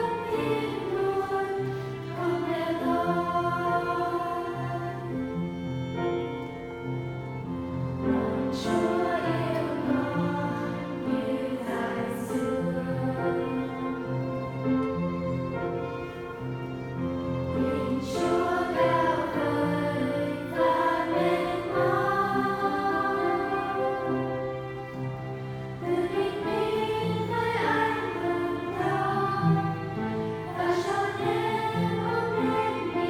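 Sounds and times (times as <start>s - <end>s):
choir singing: 0.0s - 33.0s
orchestra playing: 0.0s - 33.0s.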